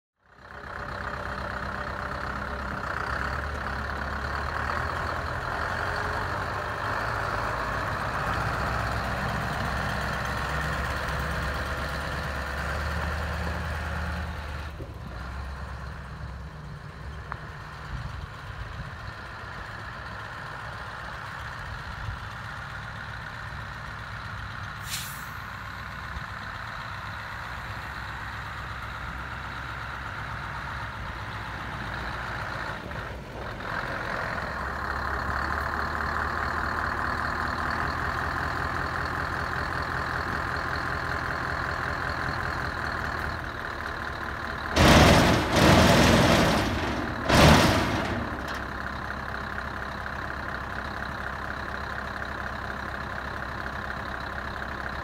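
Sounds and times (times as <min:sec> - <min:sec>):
diesel truck engine running: 0:00.2 - 0:55.0.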